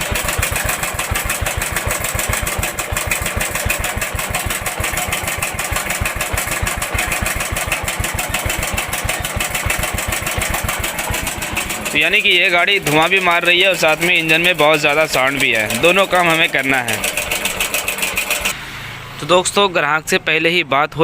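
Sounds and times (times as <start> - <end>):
engine mechanical clatter: 0.0 - 18.6
motorcycle engine idling: 0.0 - 18.6.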